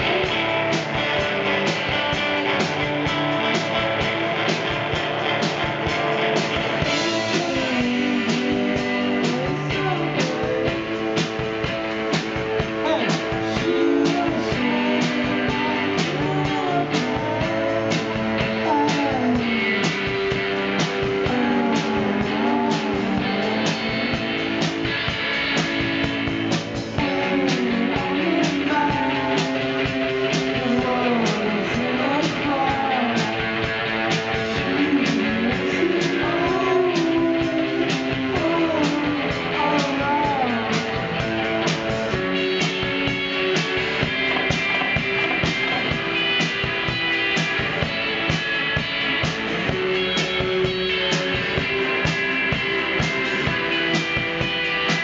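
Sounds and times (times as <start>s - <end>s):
drum kit steady beat: 0.0s - 55.0s
electric guitars: 0.0s - 55.0s.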